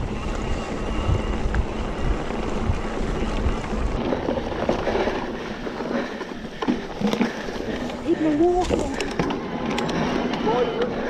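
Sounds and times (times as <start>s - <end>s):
bike tyres rumbling on gravel: 0.0s - 11.0s
wind buffeting microphone: 0.0s - 11.0s.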